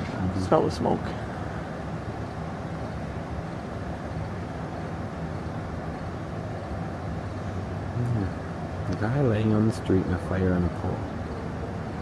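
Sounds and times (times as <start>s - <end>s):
idling vehicle engines rumbling: 0.0s - 12.0s.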